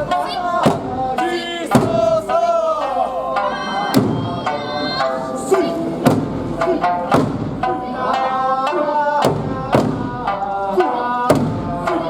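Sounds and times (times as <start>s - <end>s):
person singing a melody: 0.0s - 12.0s
taiko drums beating: 0.0s - 12.0s.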